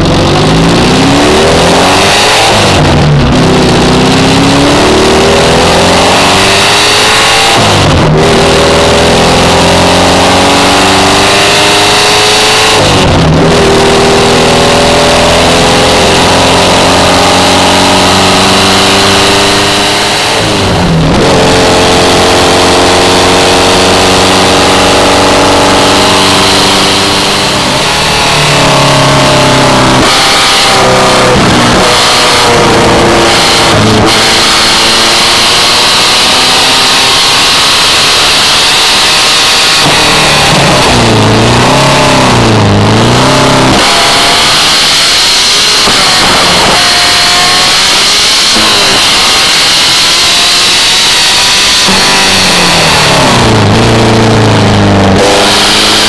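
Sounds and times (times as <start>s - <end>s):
car engine under full throttle: 0.0s - 56.0s.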